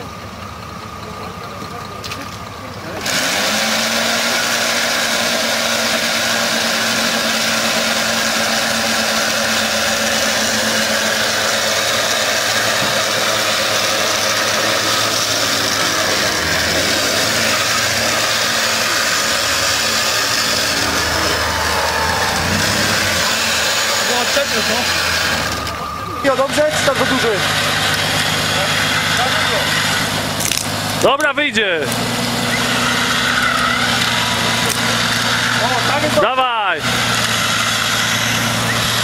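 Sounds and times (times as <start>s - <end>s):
electric winch hauling: 0.0s - 39.0s
vehicle engine running: 0.0s - 39.0s.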